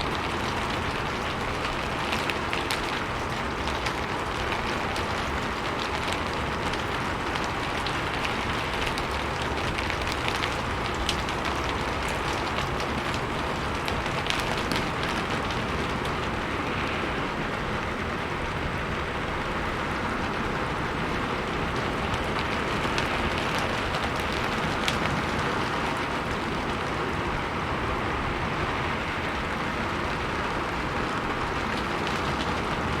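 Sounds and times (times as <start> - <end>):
rain falling on a roof: 0.0 - 33.0.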